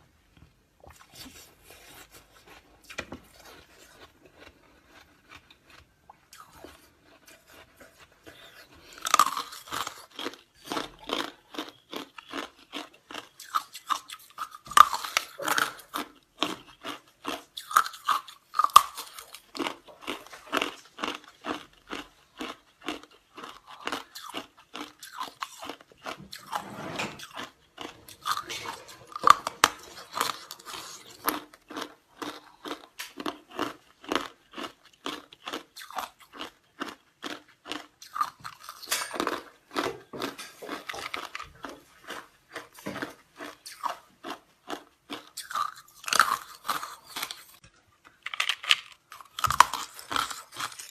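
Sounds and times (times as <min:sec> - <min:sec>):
ice cubes being chewed: 0:00.9 - 0:26.6, 0:27.2 - 0:50.9.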